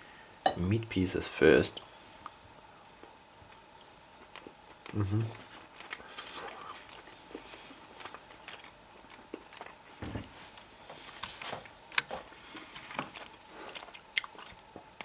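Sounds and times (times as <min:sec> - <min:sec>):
person chewing: 0:02.2 - 0:10.0, 0:10.6 - 0:15.0.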